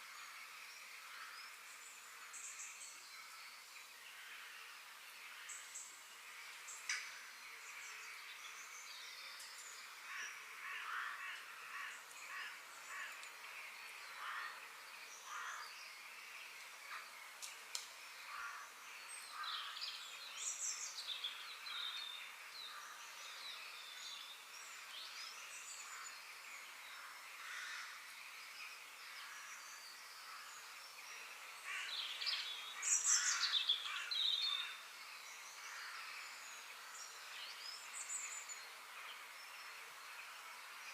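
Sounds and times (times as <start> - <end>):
birds chirping and calling: 5.3 - 39.3.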